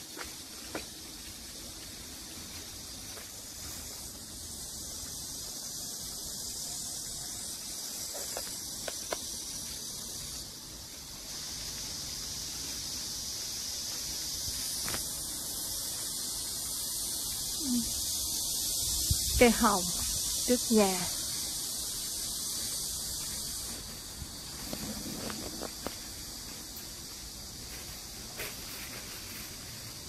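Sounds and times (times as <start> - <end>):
cicadas singing: 0.0 - 30.0.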